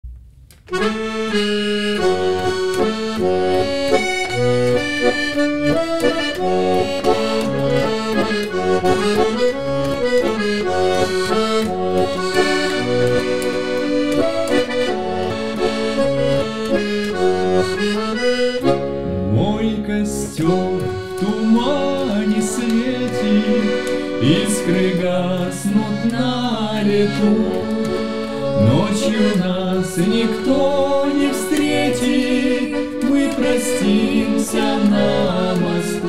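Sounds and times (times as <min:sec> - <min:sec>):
button accordion playing melody: 0:00.7 - 0:36.0.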